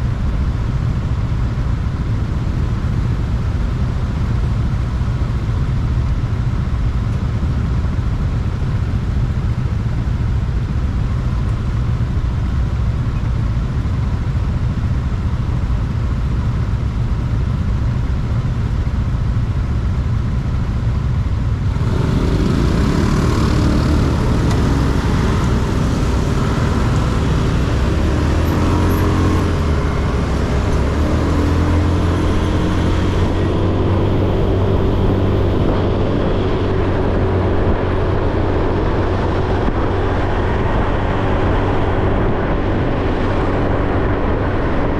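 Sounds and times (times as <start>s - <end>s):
motorcycle engine running: 0.0s - 44.9s
wind and road rush: 0.0s - 44.9s.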